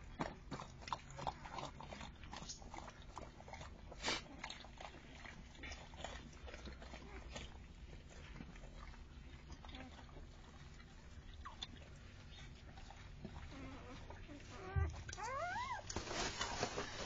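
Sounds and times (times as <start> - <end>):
dog licking and chewing: 0.0 - 17.0.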